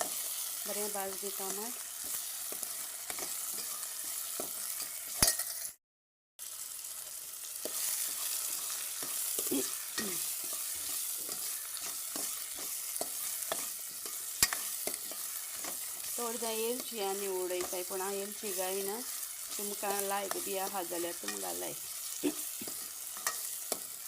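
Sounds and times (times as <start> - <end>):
food sizzling in a pan: 0.0 - 5.8, 6.4 - 24.0.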